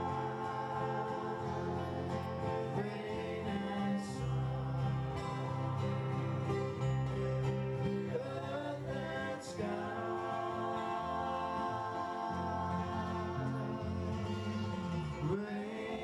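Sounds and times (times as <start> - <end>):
acoustic guitar: 0.0 - 16.0
group of voices singing: 0.0 - 16.0.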